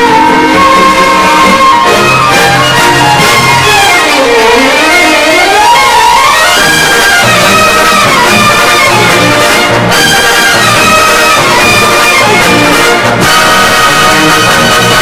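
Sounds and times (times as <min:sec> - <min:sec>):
light orchestral music with brass: 0:00.0 - 0:15.0.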